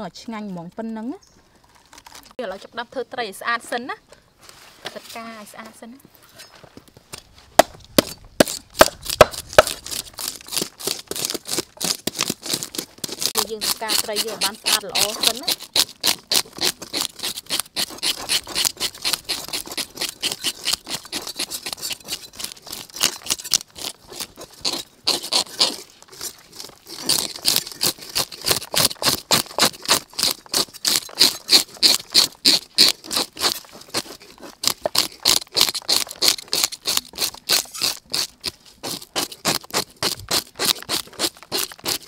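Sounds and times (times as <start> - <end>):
fish scaler scraping scales: 8.0 - 42.0.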